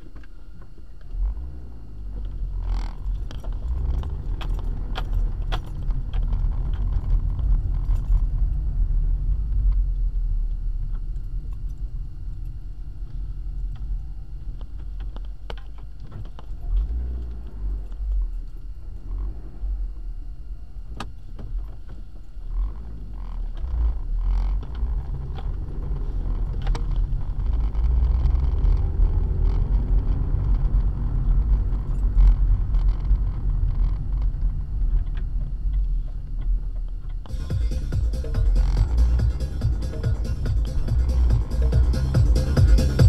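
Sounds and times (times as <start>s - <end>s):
engine and road rumble: 0.0s - 43.0s.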